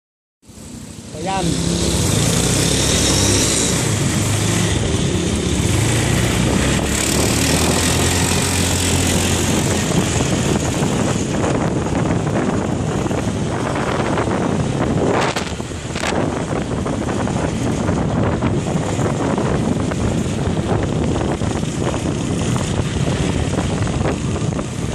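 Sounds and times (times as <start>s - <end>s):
wind and road noise: 0.4s - 24.9s
motorcycle engine running: 0.5s - 24.9s.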